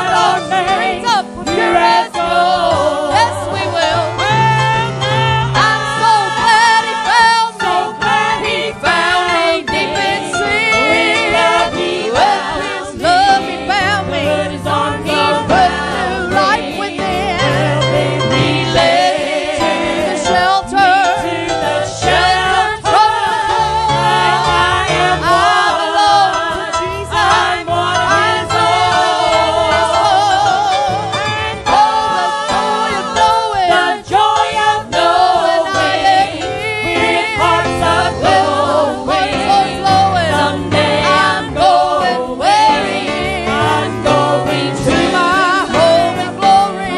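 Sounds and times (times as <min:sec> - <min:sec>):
instrumental accompaniment: 0:00.0 - 0:46.9.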